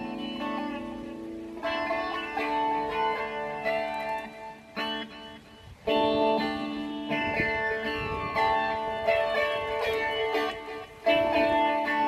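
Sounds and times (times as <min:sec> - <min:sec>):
electric guitar notes and chords: 0:00.0 - 0:12.0.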